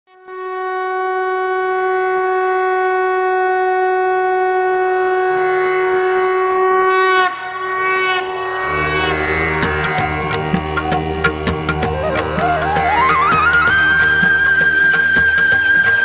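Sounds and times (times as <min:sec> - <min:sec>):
conch shell blown: 0:00.1 - 0:16.0.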